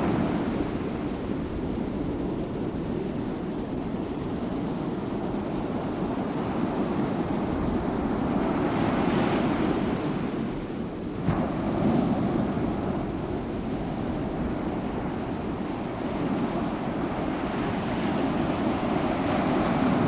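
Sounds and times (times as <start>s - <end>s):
sea waves washing onto shore: 0.0s - 20.0s.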